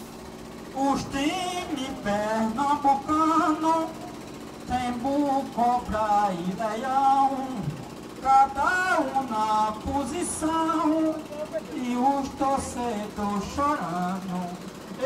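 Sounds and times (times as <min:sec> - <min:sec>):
men singing into microphones: 0:00.8 - 0:04.1, 0:04.7 - 0:14.6.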